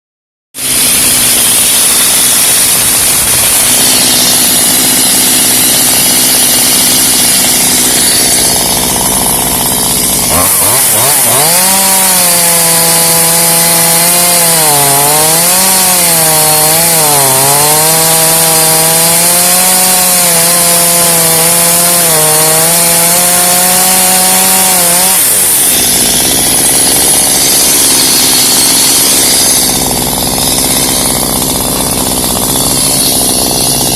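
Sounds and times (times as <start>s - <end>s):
chainsaw cutting through wood: 0.6s - 33.9s.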